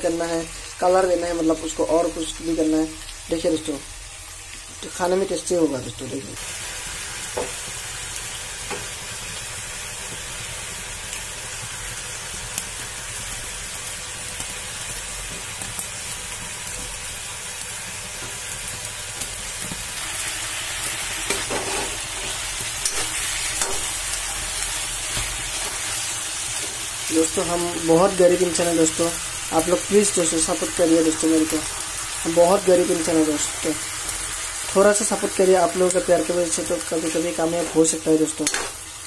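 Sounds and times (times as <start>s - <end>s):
food sizzling on a stove: 0.0s - 39.0s.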